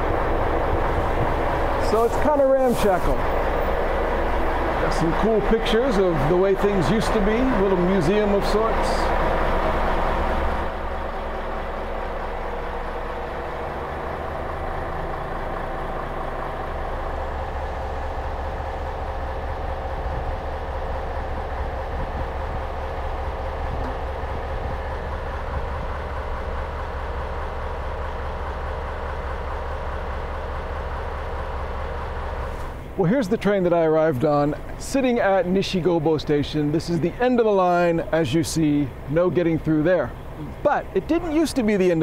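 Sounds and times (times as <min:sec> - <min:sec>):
diesel railcar engine idling: 0:00.0 - 0:42.0.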